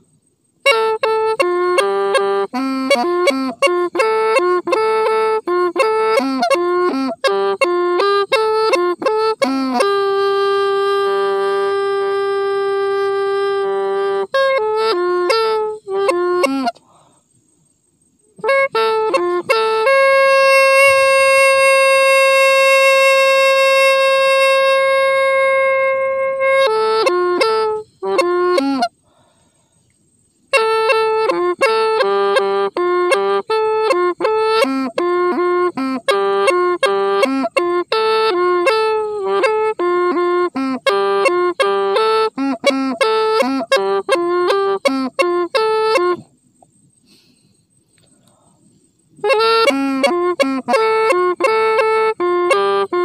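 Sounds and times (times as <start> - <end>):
bamboo pipe melody: 0.6 - 16.8, 18.4 - 28.9, 30.5 - 46.3, 49.2 - 53.0.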